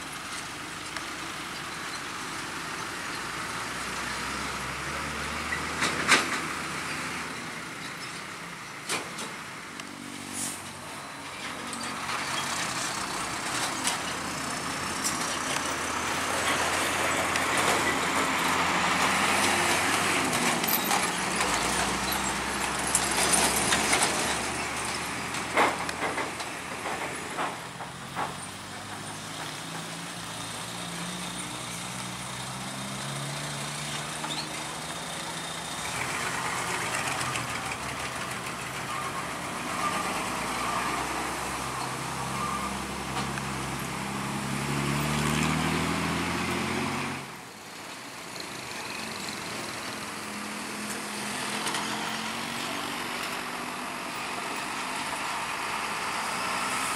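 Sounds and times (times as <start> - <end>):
trucks jolting over rails: 0.0 - 47.6
diesel trucks driving slowly: 0.0 - 56.9.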